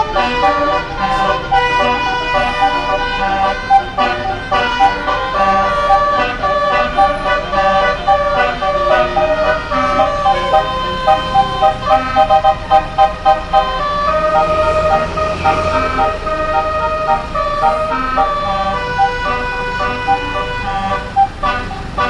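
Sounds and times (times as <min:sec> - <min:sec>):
musical bus horn tune: 0:00.0 - 0:22.0.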